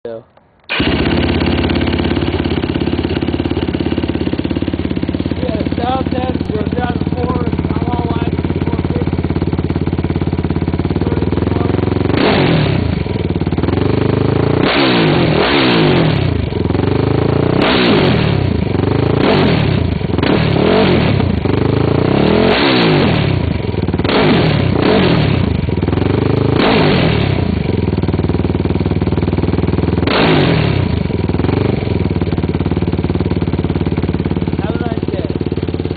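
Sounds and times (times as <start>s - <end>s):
engine idling and revving: 0.7s - 35.9s.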